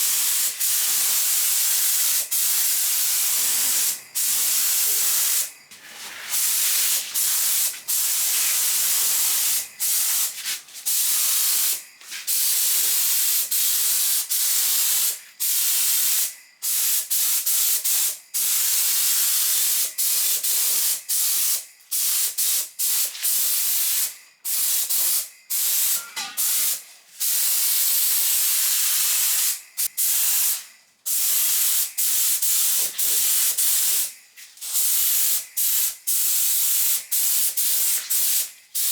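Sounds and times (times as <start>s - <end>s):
spray gun hissing: 0.0s - 15.2s, 20.2s - 38.9s.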